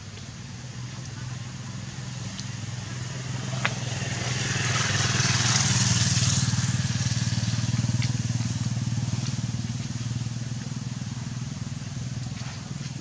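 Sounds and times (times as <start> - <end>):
motor engine running: 0.4 - 13.0.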